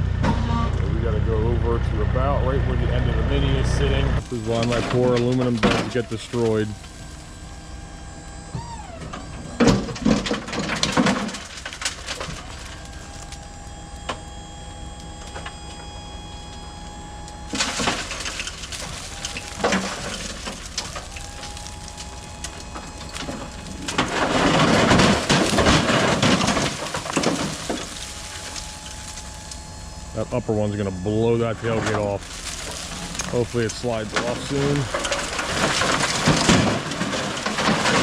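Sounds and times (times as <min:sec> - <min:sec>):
hydraulic whine: 0:00.0 - 0:38.0
mini excavator running: 0:00.0 - 0:38.0
dirt crashing into metal truck bed: 0:04.2 - 0:15.8, 0:17.3 - 0:30.2, 0:31.4 - 0:38.0.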